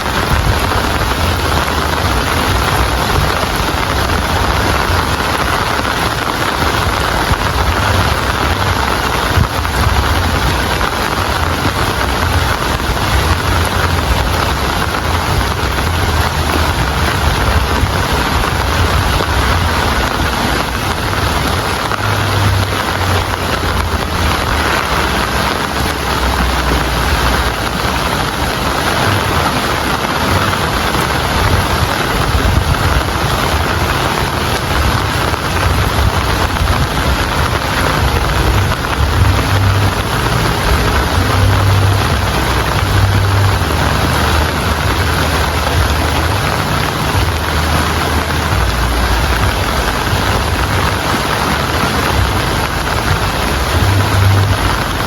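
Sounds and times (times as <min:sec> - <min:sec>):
heavy rainfall: 0:00.0 - 0:55.0
low rumble: 0:00.0 - 0:55.0.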